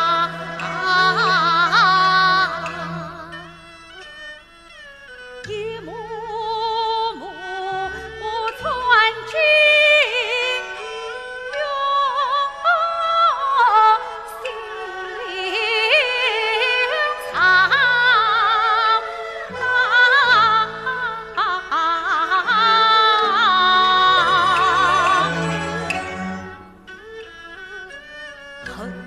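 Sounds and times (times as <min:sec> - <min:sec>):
opera ensemble with bowed fiddles: 0:00.0 - 0:29.0.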